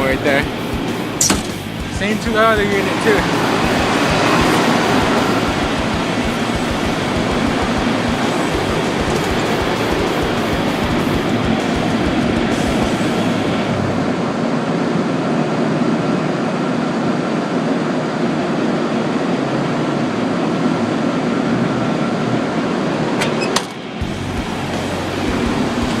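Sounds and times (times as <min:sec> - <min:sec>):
boiler room machinery running: 0:00.0 - 0:26.0.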